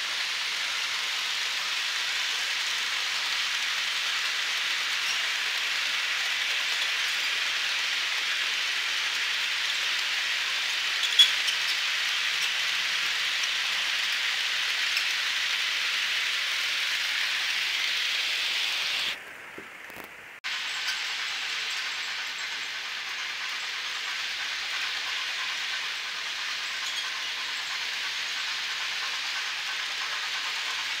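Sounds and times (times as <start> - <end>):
model train cars rattling on track: 0.0 - 19.2, 20.5 - 31.0.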